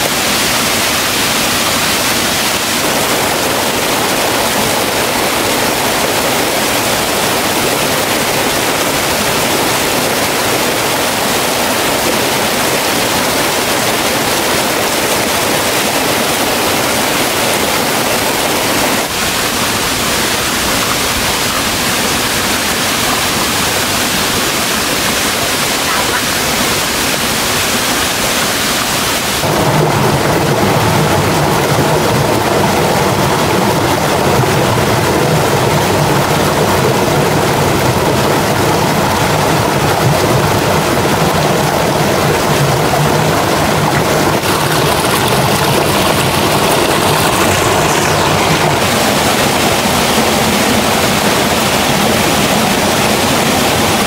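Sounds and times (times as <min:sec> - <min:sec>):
water rushing over waterfall: 0:00.0 - 0:54.0.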